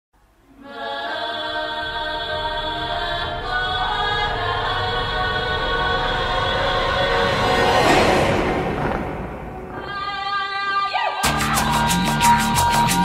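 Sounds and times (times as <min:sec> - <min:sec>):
choir singing sustained chords: 0:00.2 - 0:13.0.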